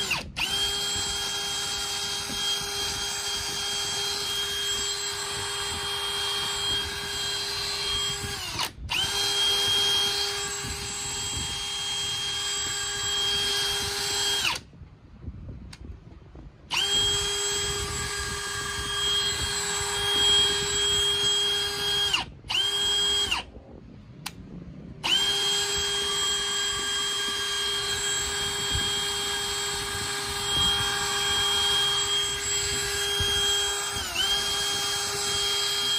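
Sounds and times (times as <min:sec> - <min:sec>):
cordless drill motor whine: 0:00.0 - 0:14.8, 0:16.7 - 0:23.6, 0:25.0 - 0:35.9.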